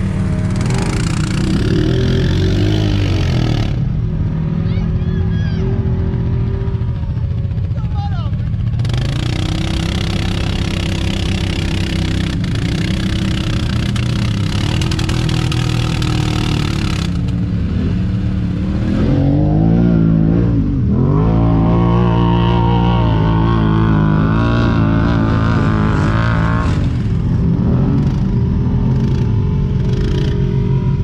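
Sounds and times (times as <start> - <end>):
engine revving: 0.0 - 7.7, 8.4 - 31.0
quad bike engines running: 0.0 - 31.0.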